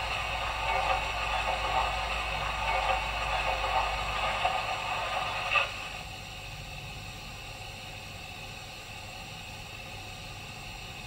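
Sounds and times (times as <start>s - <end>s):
model locomotive low rumble: 0.0s - 11.0s.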